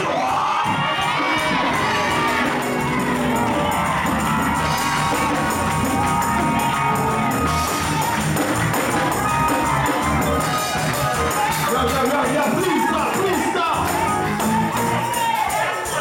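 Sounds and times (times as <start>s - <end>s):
steady percussion beat: 0.0s - 16.0s
voices singing gospel: 0.0s - 16.0s.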